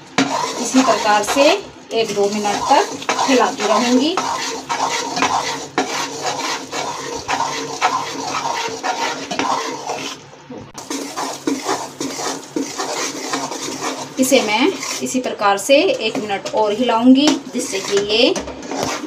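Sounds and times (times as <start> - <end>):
metal spatula scraping a pan: 0.0 - 10.2, 10.8 - 19.0.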